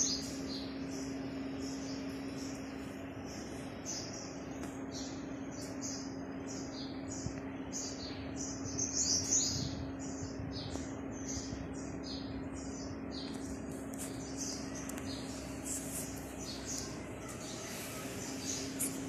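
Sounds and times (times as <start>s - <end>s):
faint steady hum: 0.0s - 19.0s
small birds chirping: 0.0s - 19.0s.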